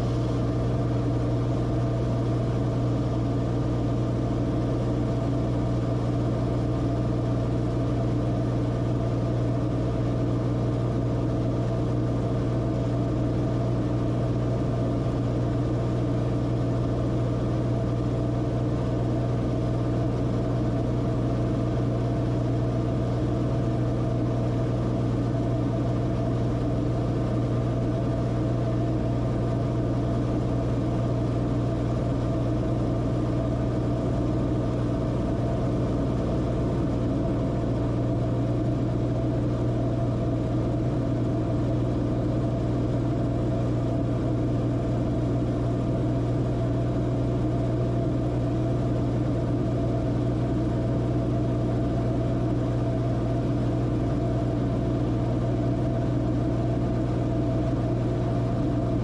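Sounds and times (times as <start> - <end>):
aircraft engine and propeller drone: 0.0 - 59.0.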